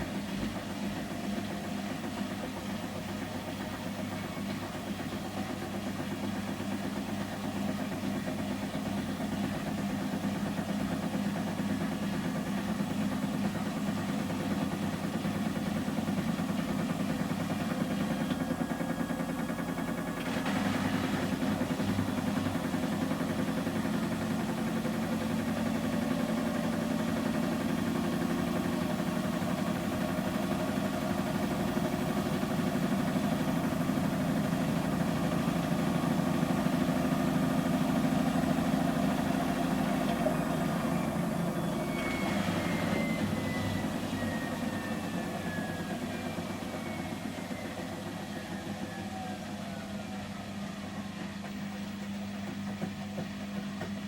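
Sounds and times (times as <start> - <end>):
washing machine spinning: 0.0 - 54.0.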